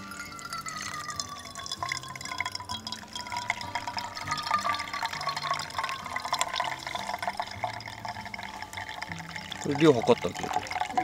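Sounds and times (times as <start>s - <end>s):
water pouring onto coffee grounds: 0.0s - 11.0s.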